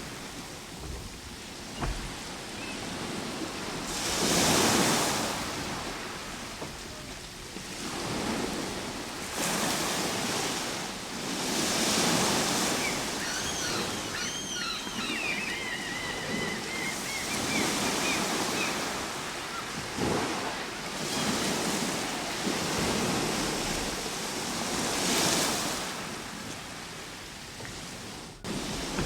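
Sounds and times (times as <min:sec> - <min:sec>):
ocean surf washing ashore: 0:00.0 - 0:29.0.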